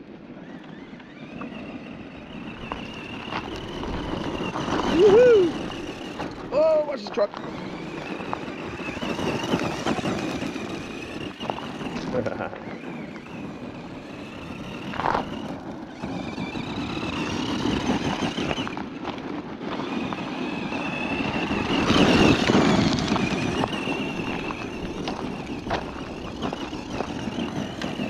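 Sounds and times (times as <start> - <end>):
electric motor whining: 0.0 - 28.0
tyres crunching on gravel: 0.2 - 28.0.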